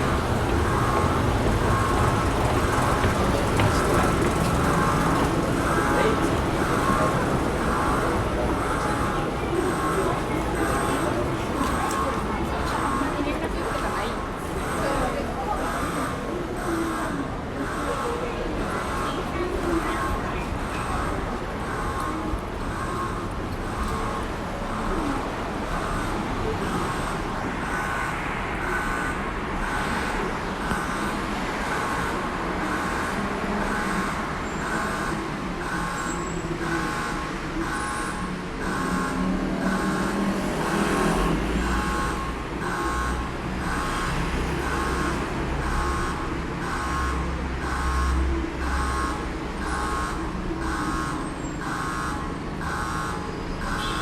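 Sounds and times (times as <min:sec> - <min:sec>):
emergency alarm ringing: 0:00.0 - 0:54.0.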